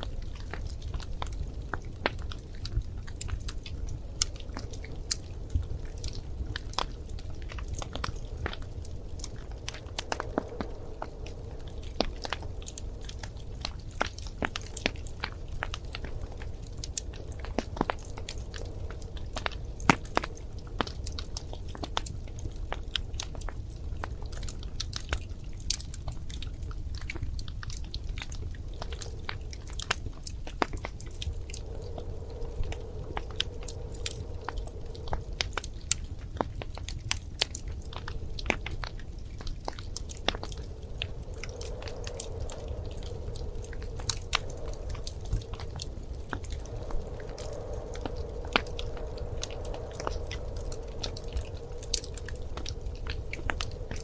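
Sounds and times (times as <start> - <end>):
faint hum: 0.0 - 54.0
wood fire crackling: 0.0 - 54.0.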